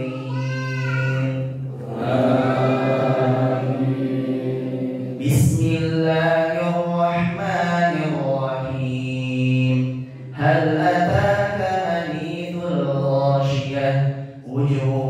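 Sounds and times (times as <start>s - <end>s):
man chanting over microphone: 0.0s - 15.0s.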